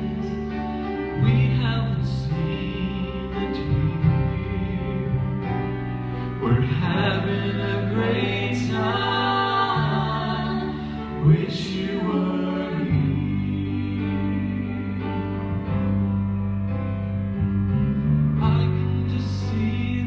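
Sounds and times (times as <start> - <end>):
person singing gospel: 0.0 - 15.6, 18.4 - 20.0.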